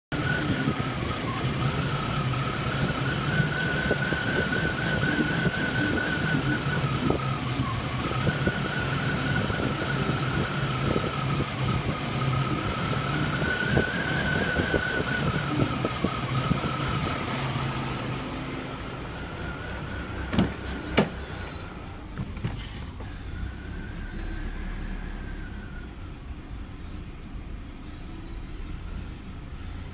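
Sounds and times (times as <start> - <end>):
car engine idling roughly: 0.1 - 29.9
high whine rising and falling: 0.1 - 29.9.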